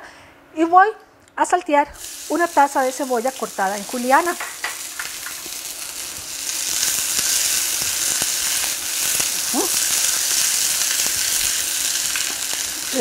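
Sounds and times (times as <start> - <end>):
onion sizzling in oil: 2.0 - 13.0.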